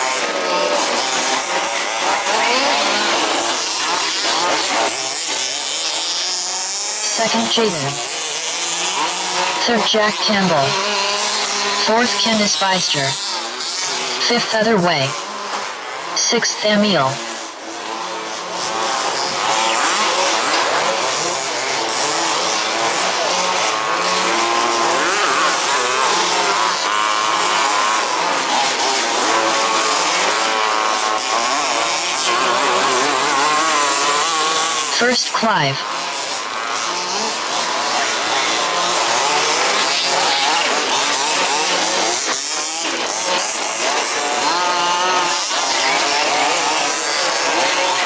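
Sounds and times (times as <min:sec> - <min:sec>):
small two-stroke engines buzzing: 0:00.0 - 0:48.0.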